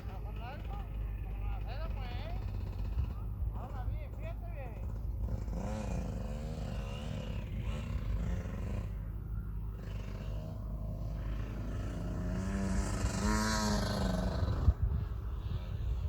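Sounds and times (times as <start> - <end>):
motocross bike engine passing: 0.0 - 16.0.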